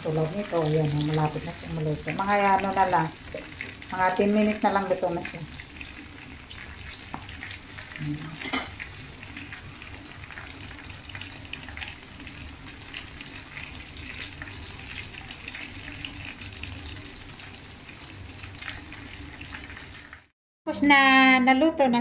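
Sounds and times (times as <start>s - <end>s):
fish deep-frying in oil: 0.0s - 20.3s.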